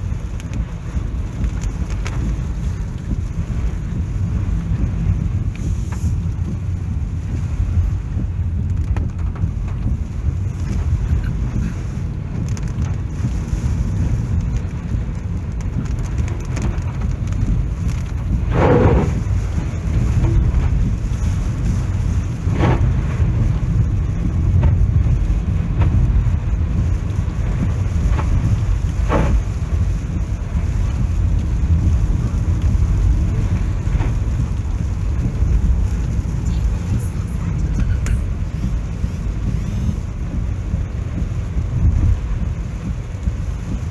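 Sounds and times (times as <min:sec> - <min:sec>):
wind and rain rumble: 0:00.0 - 0:43.9.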